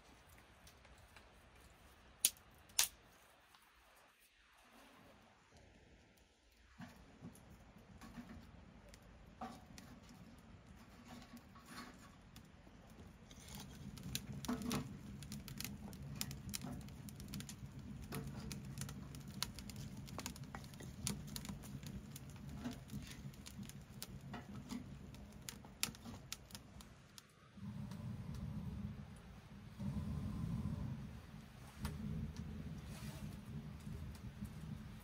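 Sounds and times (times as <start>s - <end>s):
low fire rumble: 0.0s - 35.0s
wood fire crackling and popping: 0.0s - 35.0s.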